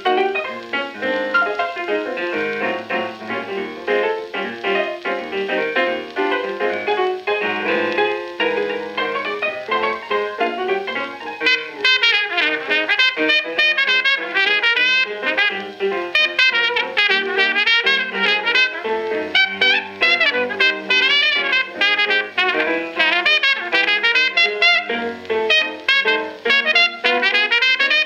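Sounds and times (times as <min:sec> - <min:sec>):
jazz trumpet: 0:00.0 - 0:28.0
piano chords: 0:00.0 - 0:28.0.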